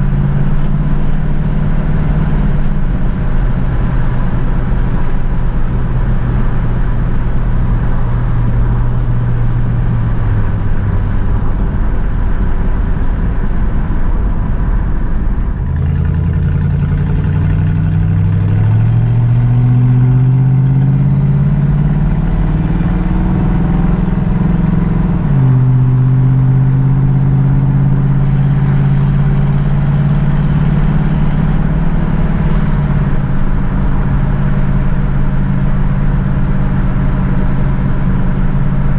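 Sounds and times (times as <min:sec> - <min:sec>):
car engine cruising and accelerating: 0:00.0 - 0:38.9.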